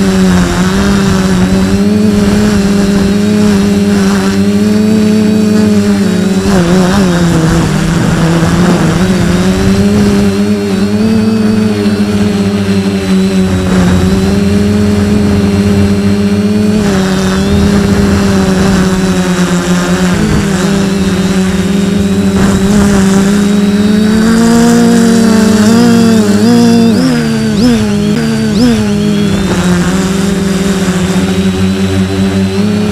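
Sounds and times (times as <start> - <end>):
quadcopter motors droning: 0.0 - 32.9.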